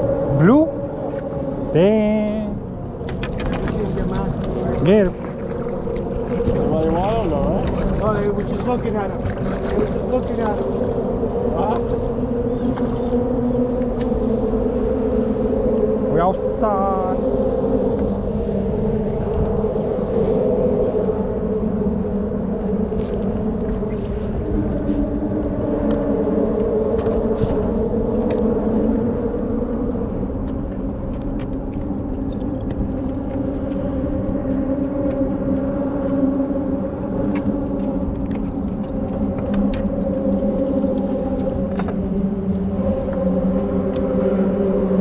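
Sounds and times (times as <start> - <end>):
low rumble: 0.0 - 45.0
outboard motor running: 0.0 - 45.0.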